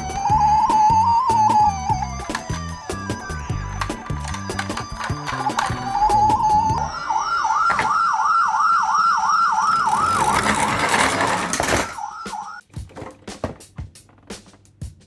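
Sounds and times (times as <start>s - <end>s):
toy siren yelping: 0.0s - 12.6s.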